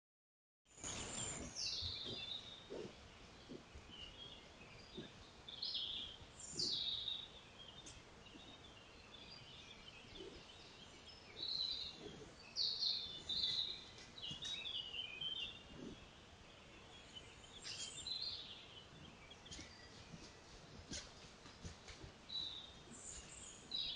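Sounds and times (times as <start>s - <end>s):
songbirds chirping: 0.7s - 23.9s.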